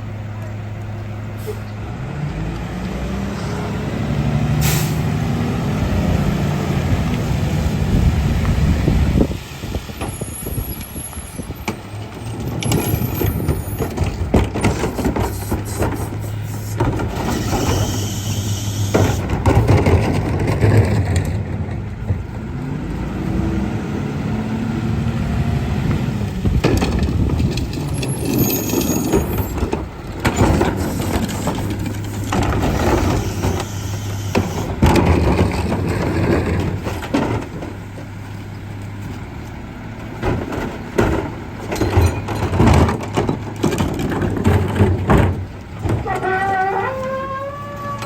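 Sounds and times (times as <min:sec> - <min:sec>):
bins and trash banging: 0:04.2 - 0:23.9, 0:24.9 - 0:48.0
garbage truck engine running: 0:04.5 - 0:48.0.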